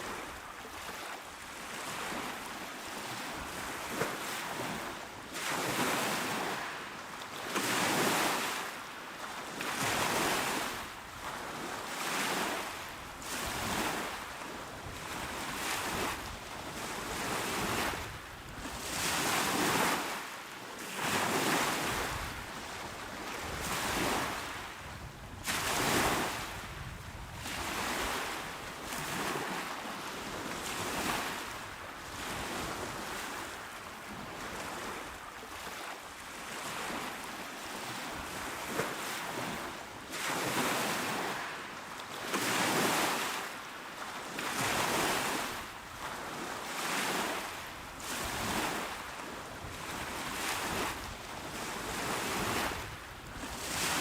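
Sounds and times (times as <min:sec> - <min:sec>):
small waves washing ashore: 0:00.0 - 0:54.0.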